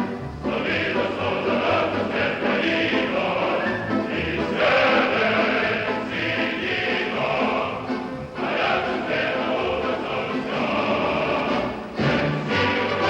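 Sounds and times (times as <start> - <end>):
choir singing sustained notes: 0.0 - 13.0.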